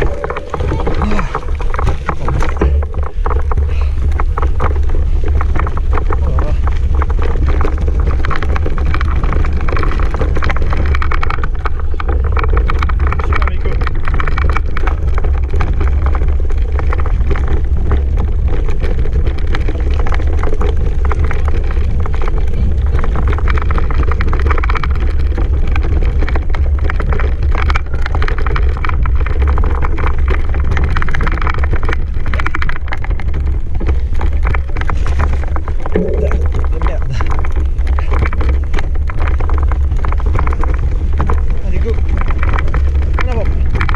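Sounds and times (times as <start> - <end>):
tyres rattling and crunching: 0.0 - 43.9
wind rumble on microphone: 0.0 - 43.9.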